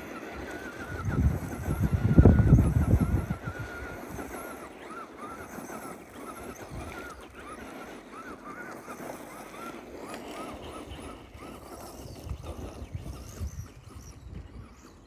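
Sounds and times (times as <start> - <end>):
electric motor whine: 0.0 - 15.0
tires spinning and spraying gravel: 0.0 - 15.0.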